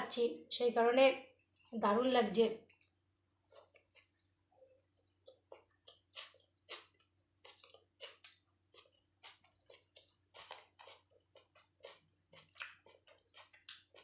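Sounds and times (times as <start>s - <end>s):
close chewing with wet mouth clicks: 2.7s - 14.0s.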